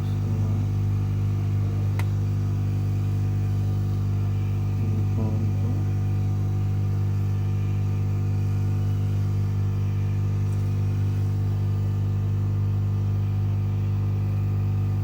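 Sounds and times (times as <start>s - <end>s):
hot air gun fan humming: 0.0s - 15.0s.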